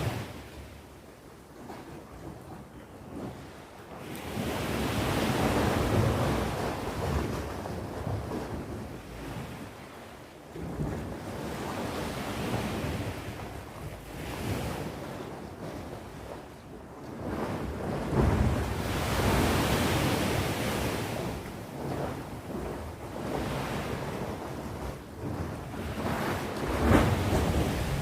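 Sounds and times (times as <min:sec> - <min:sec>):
sea waves breaking on shore: 0:00.0 - 0:28.0
wind on microphone: 0:00.0 - 0:28.0.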